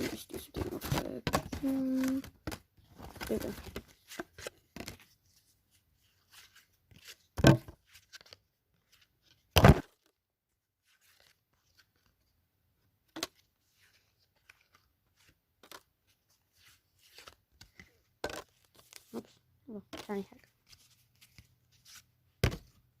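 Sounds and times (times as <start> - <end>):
trading cards rustling: 0.0 - 10.2, 10.8 - 12.3, 13.1 - 22.2.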